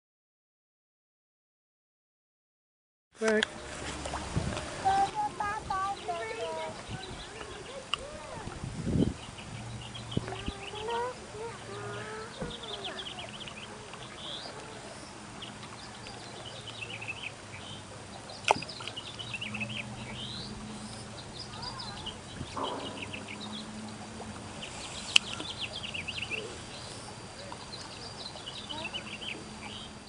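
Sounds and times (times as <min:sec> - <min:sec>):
small birds chirping: 0:03.2 - 0:30.0.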